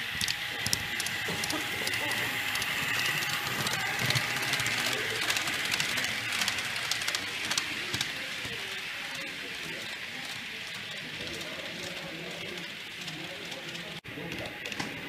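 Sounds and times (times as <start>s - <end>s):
model train locomotive whine: 0.0s - 15.0s
murmur of crowd in hall: 0.0s - 15.0s
wheels clicking on rails: 0.0s - 15.0s.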